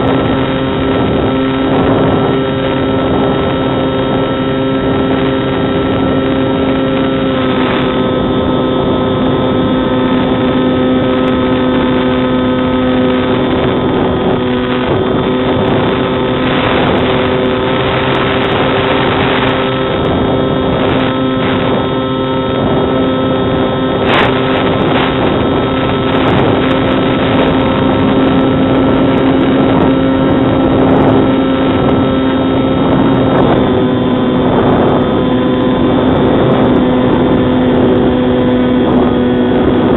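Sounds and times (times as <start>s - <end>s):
electric motor and propeller drone: 0.0s - 39.9s
wind rushing over microphone: 0.0s - 39.9s.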